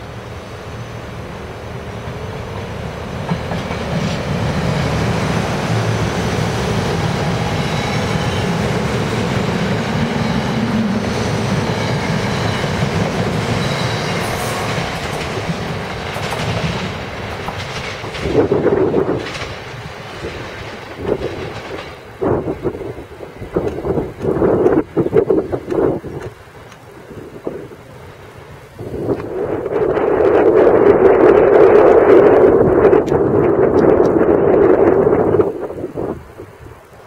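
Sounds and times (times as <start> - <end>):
train wheels clattering over rails: 1.6 - 35.9.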